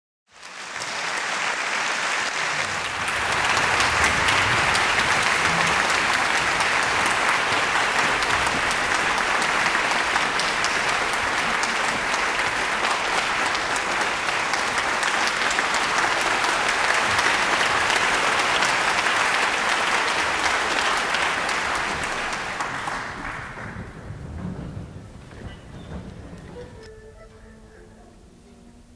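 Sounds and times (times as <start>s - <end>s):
audience applauding: 0.3s - 28.0s.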